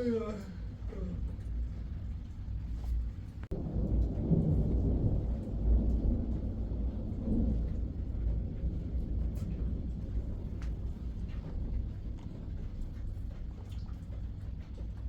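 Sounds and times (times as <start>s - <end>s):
rain: 0.0s - 15.0s
wind: 0.0s - 15.0s.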